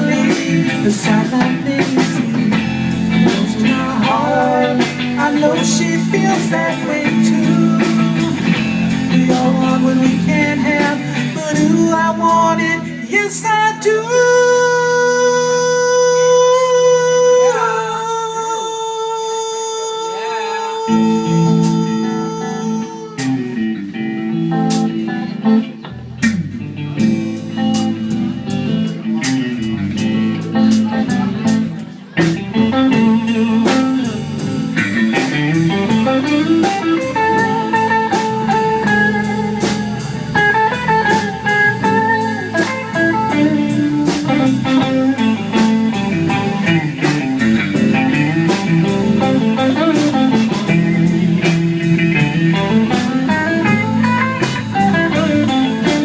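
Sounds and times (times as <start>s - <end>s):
lead guitar melody: 0.0s - 17.4s, 20.7s - 56.0s
bass line: 0.0s - 18.7s, 20.8s - 56.0s
blues band playing: 0.0s - 19.0s, 20.1s - 56.0s.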